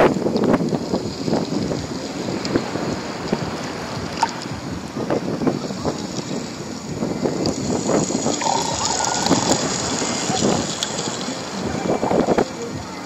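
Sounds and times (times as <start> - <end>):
water splashing and sloshing: 0.0 - 13.0
wind buffeting microphone: 0.0 - 13.0.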